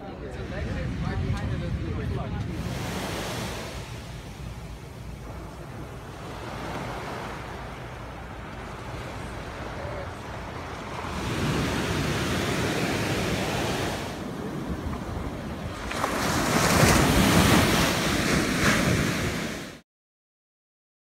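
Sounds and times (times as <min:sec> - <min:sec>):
small waves breaking on beach: 0:02.5 - 0:19.8.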